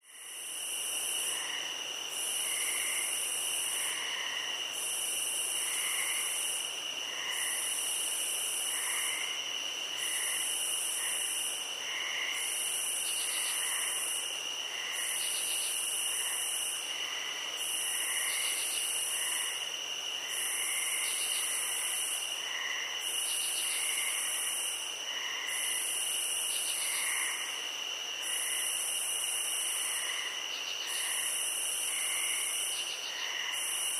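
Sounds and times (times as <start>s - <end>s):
crickets trilling: 0.0s - 33.9s
soft low cricket chirps: 0.0s - 33.9s.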